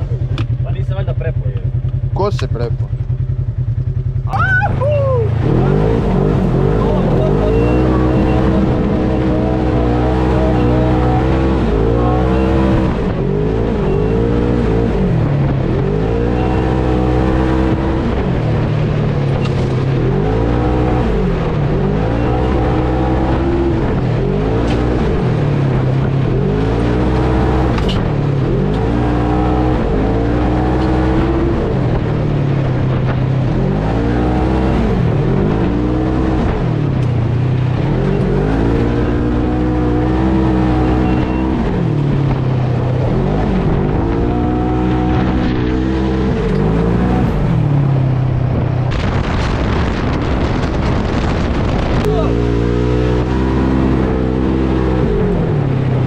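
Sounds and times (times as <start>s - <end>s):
engine revving: 0.0s - 56.0s.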